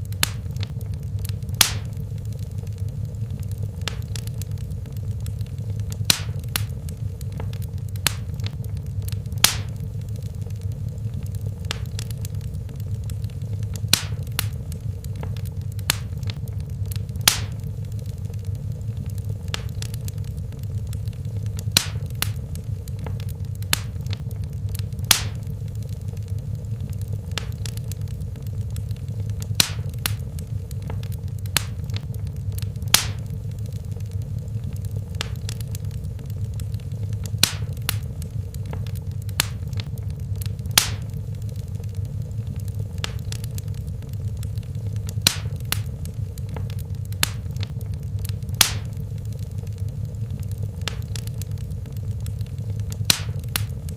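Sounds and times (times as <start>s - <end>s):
fire pops and snaps: 0.0s - 53.9s
low rumble of flames: 0.0s - 53.9s.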